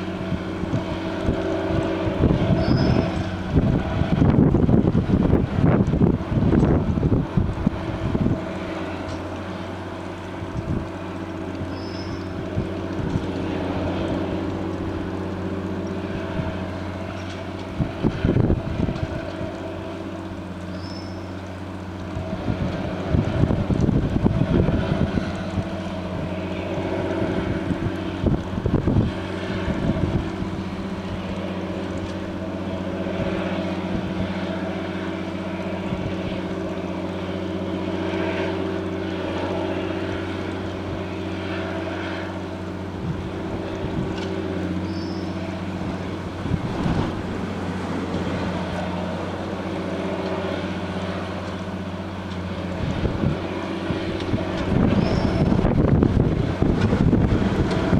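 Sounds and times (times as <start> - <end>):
diesel engine running: 0.0 - 57.9
wind gusts on microphone: 0.0 - 57.9.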